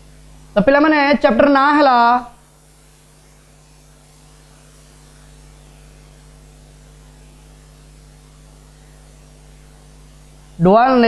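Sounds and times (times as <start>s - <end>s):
electrical mains hum: 0.0s - 11.0s
faint hiss: 0.0s - 11.0s.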